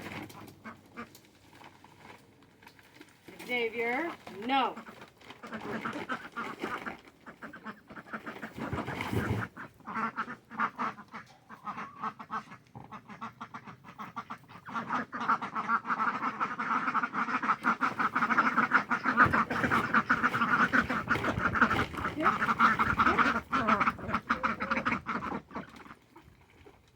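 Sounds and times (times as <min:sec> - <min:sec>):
ducks quacking: 0:03.4 - 0:26.4.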